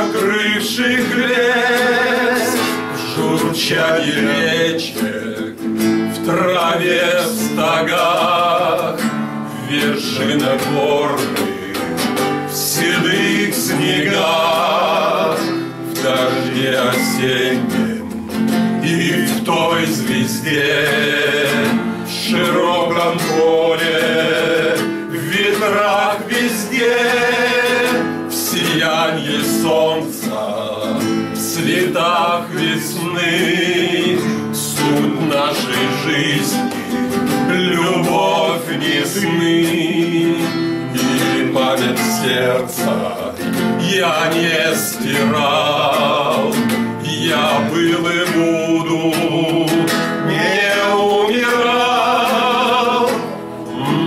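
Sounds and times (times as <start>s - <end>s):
acoustic guitar strumming: 0.0s - 54.0s
man singing with vibrato: 0.0s - 54.0s.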